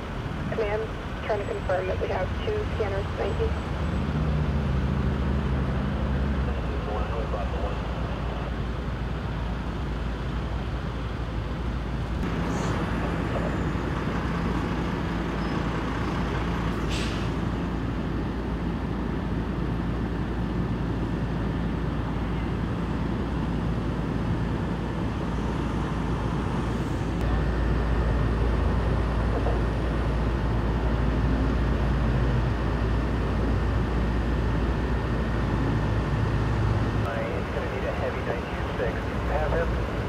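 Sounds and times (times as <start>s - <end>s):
fire engines idling hum: 0.0s - 40.0s
traffic rumble: 0.0s - 40.0s.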